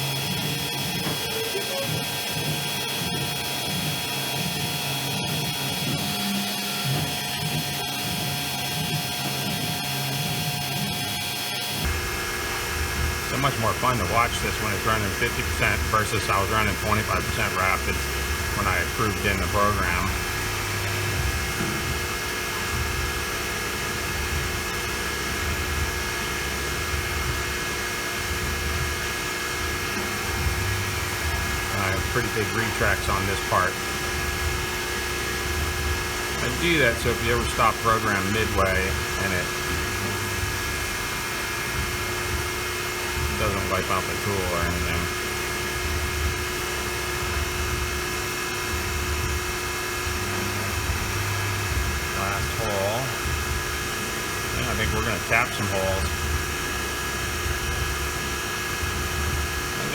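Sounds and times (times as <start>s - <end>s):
milling machine drilling metal: 0.0s - 59.9s
spindle whine: 0.0s - 59.9s.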